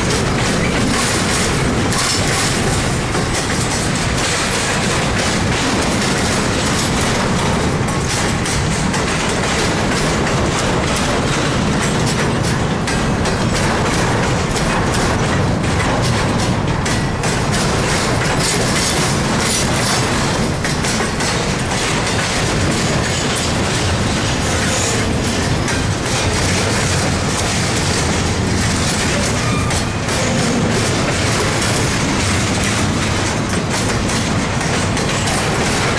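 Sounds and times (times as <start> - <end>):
freight train rolling past: 0.0 - 35.9
wheels clacking over rail joints: 0.0 - 35.9.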